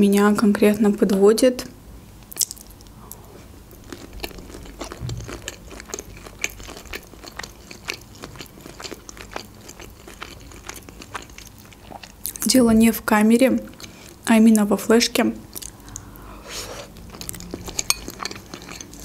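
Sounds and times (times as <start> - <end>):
chewing fruit close-up: 2.2 - 14.7, 15.4 - 19.0.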